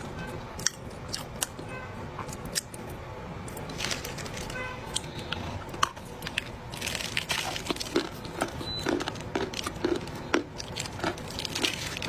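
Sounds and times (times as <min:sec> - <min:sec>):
chewing with crunches: 0:00.5 - 0:01.6, 0:02.2 - 0:12.0.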